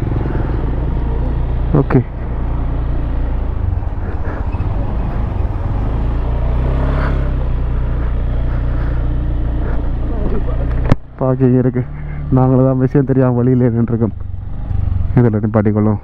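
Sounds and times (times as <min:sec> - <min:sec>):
motorbike engine running: 0:00.0 - 0:15.5.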